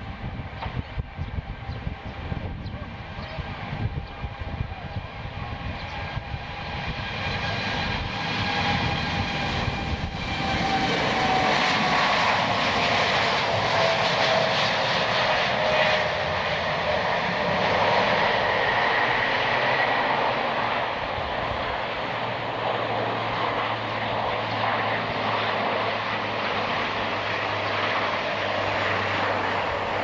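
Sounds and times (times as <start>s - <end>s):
jet engine whine: 0.0s - 30.0s
jet engines passing: 0.0s - 30.0s.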